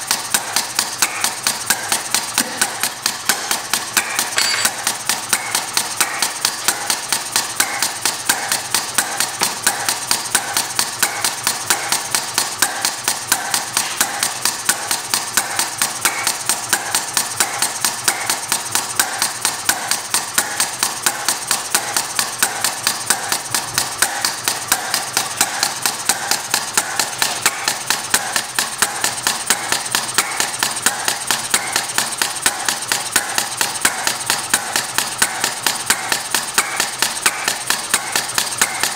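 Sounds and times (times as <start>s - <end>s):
model engine metallic clicks: 0.0s - 38.9s.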